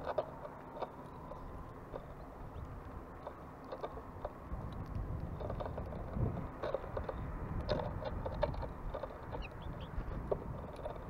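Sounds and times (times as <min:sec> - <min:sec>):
birds pecking at seed: 0:00.0 - 0:11.0.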